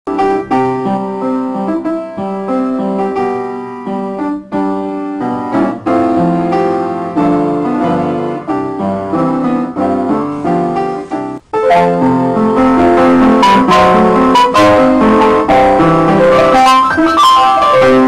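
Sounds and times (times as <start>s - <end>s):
piano music: 0.1s - 18.0s.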